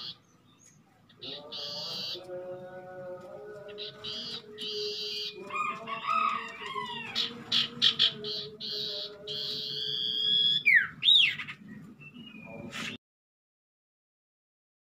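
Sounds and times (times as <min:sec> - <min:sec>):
birds chirping and whistling: 0:00.0 - 0:02.6, 0:03.6 - 0:13.0.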